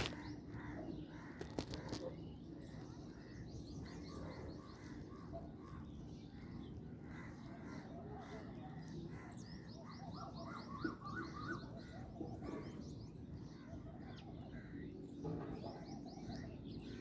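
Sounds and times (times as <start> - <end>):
sparrows and birds chirping: 0.0 - 17.0.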